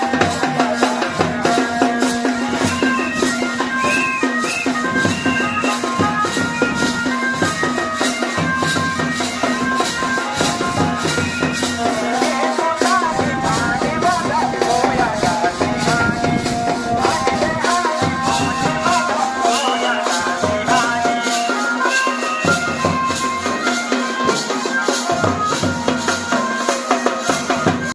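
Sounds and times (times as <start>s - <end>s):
folk melody: 0.0s - 27.9s
percussion beat: 0.0s - 27.9s.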